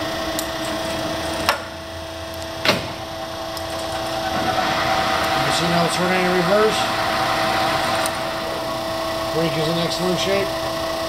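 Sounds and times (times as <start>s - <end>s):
lathe spindle whine: 0.0s - 11.0s.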